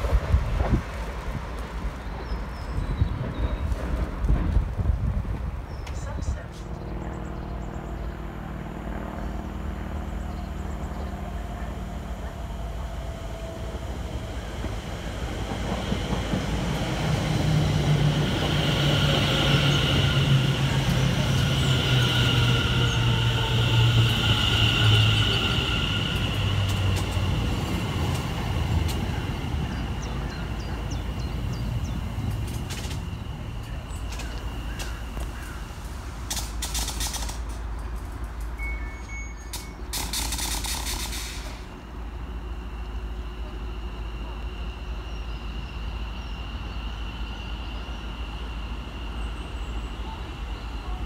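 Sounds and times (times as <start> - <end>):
train rushing past: 0.0 - 51.0.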